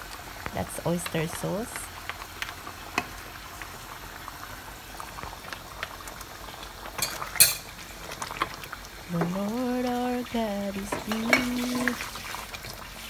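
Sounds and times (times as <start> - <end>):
sauce bubbling and popping: 0.0 - 13.0.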